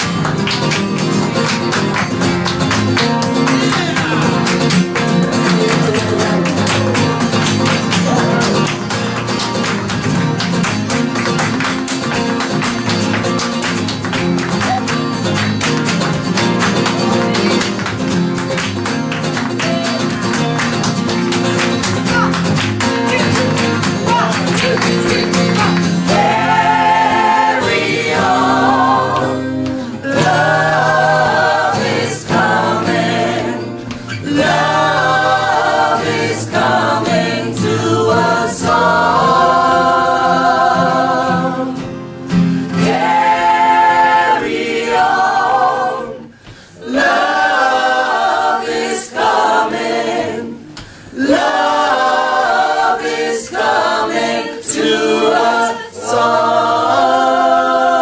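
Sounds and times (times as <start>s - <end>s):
acoustic guitar strumming: 0.0s - 58.0s
group singing: 0.0s - 58.0s.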